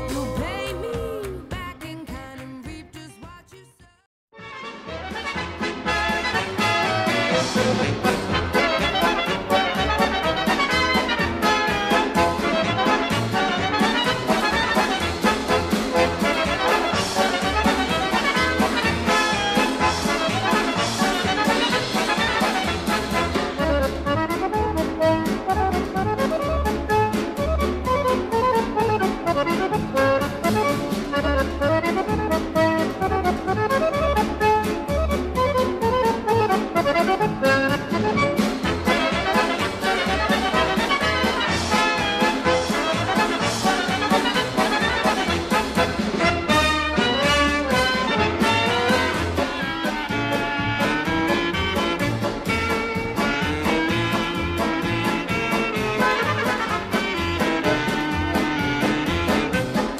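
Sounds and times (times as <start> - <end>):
instrumental music with steady beat: 1.4 - 59.9.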